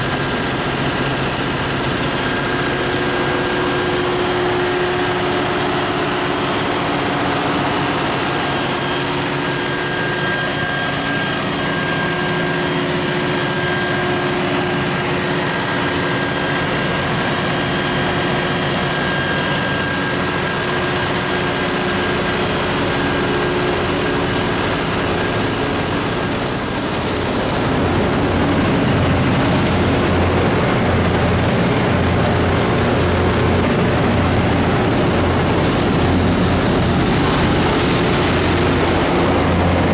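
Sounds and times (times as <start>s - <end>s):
diesel generator engine droning: 0.0s - 39.9s.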